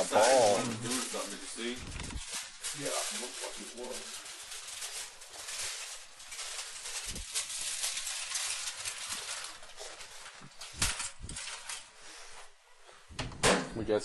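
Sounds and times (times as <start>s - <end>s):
foil arcing in microwave: 0.0s - 11.9s.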